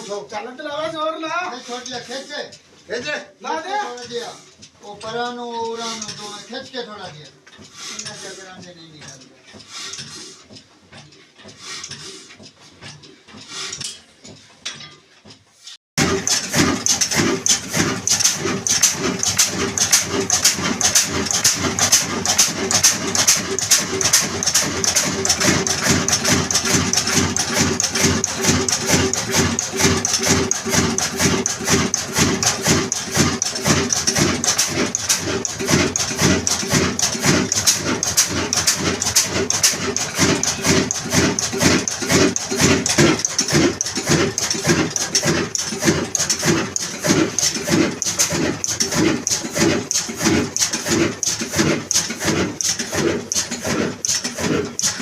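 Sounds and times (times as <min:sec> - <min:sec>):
diesel engine chuffing: 0:00.0 - 0:13.8, 0:16.0 - 0:55.0.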